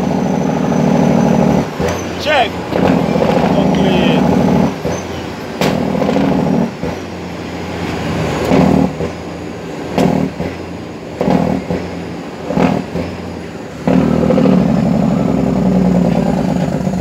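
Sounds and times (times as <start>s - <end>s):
diesel truck engine surging: 0.0s - 17.0s.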